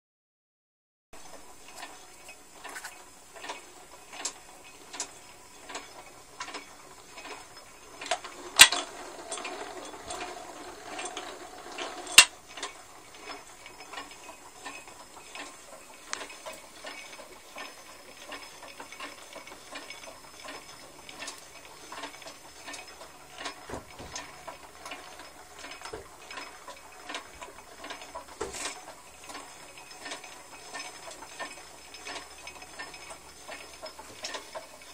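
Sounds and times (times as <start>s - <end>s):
lathe clattering: 1.3s - 34.9s.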